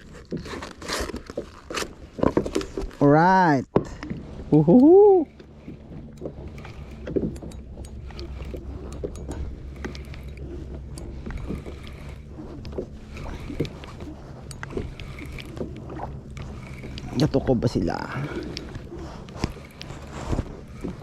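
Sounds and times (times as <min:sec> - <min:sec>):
boat engine hum: 0:00.0 - 0:21.0.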